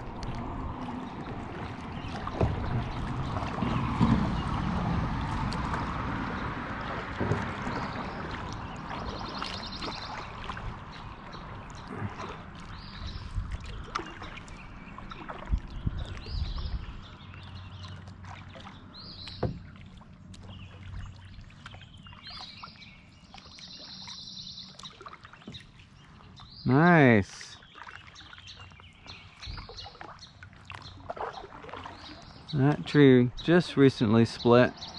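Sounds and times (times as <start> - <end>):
paddle splashes: 0.0 - 34.9
rushing river water: 0.0 - 34.9.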